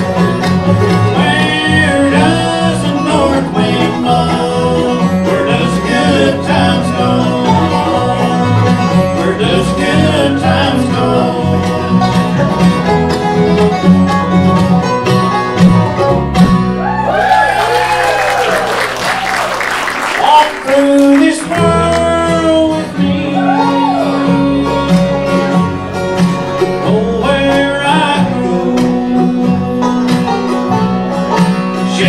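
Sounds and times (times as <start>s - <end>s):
fiddle: 0.0s - 16.9s, 20.8s - 32.0s
banjo: 0.0s - 17.3s, 19.1s - 32.0s
bluegrass band playing: 0.0s - 32.0s.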